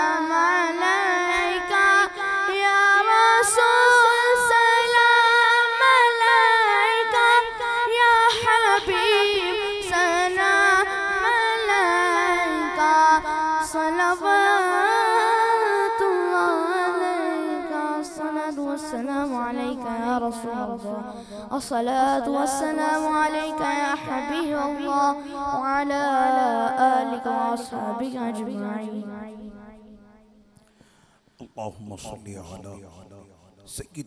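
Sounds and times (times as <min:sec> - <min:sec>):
boy singing unaccompanied: 0:00.0 - 0:29.6.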